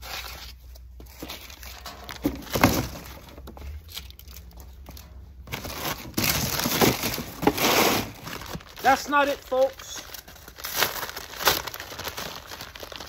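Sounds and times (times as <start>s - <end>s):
cardboard box and foam rustling: 0.0s - 13.0s.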